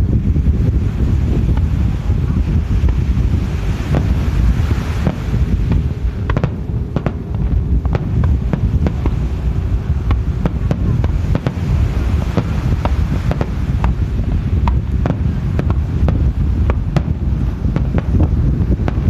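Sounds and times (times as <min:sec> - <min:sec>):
firework shells bursting: 0:02.8 - 0:19.0.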